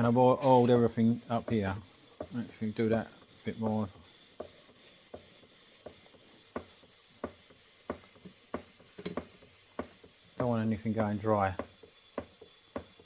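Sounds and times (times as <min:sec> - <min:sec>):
air hissing: 0:00.0 - 0:13.0.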